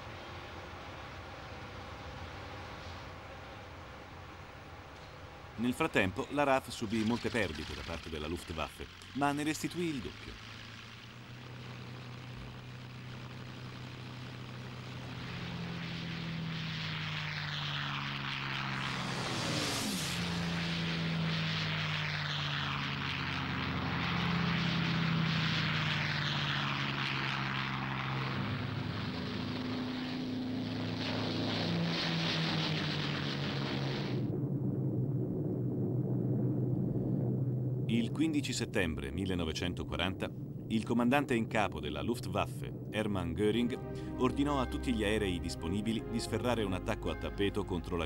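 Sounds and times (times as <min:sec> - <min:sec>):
plane passing by: 0:00.0 - 0:48.0
propeller plane engines: 0:00.0 - 0:48.0.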